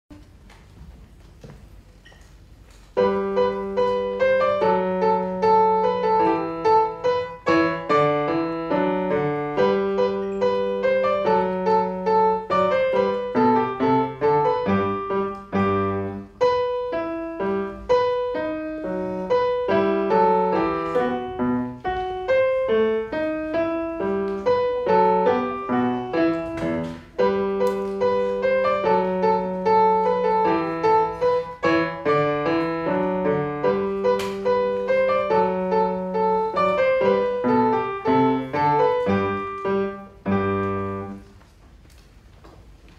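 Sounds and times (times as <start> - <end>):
solo piano melody: 2.9 - 41.4.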